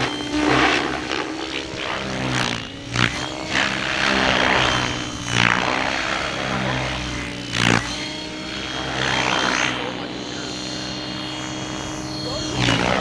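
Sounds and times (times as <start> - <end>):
helicopter rotor humming: 0.0 - 13.0
high motor whine: 0.0 - 13.0.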